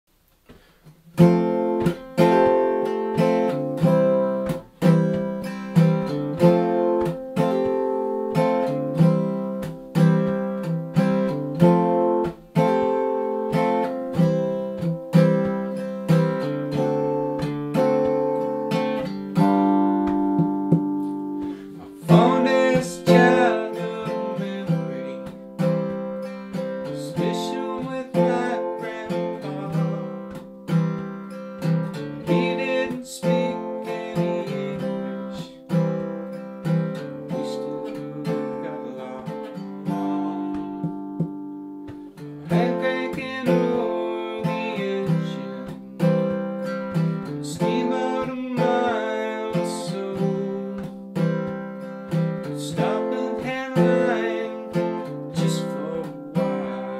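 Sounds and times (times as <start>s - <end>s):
acoustic guitar strumming: 0.5s - 56.9s.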